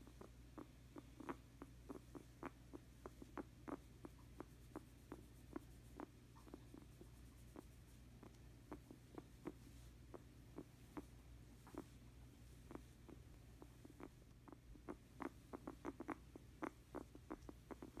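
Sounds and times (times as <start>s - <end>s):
guinea pig popping and clicking: 0.0s - 11.9s, 12.7s - 18.0s.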